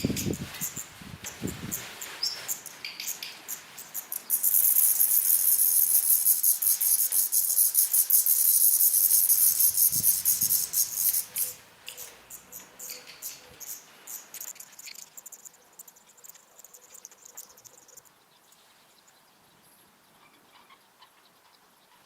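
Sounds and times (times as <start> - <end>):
nestling birds chirping: 0.0 - 22.0.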